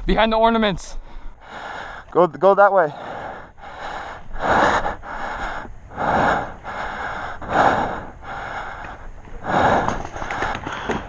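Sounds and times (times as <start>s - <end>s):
person breathing heavily: 1.0s - 2.2s, 2.8s - 11.0s.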